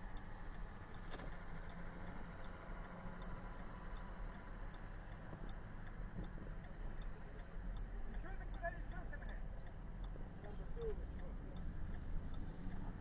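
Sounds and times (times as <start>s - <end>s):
car road and engine rumble: 0.0s - 13.0s
light regular ticking: 0.0s - 13.0s.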